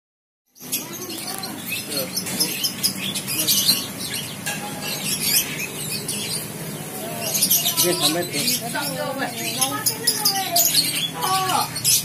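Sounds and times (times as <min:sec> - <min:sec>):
birds chirping: 0:00.5 - 0:12.0
faint voices: 0:00.7 - 0:12.0.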